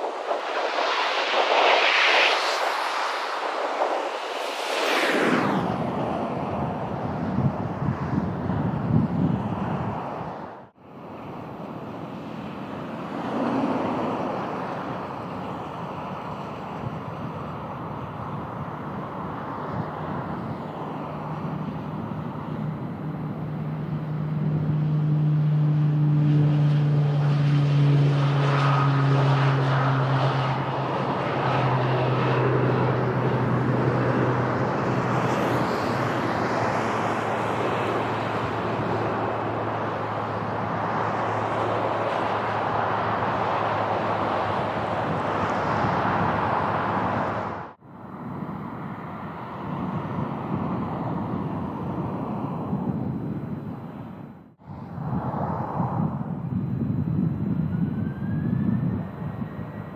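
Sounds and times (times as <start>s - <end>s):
turboprop propeller drone: 0.0s - 59.9s
wind noise on microphone: 0.0s - 59.9s.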